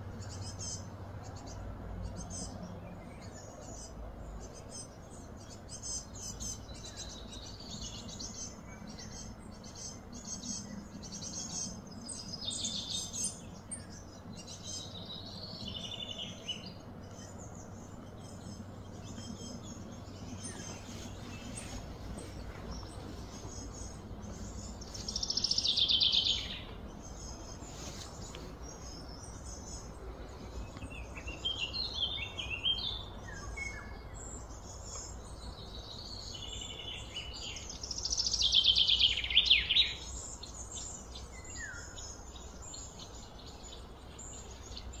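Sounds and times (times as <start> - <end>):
faint low rumble: 0.0 - 38.1
bird chirps: 0.2 - 45.0.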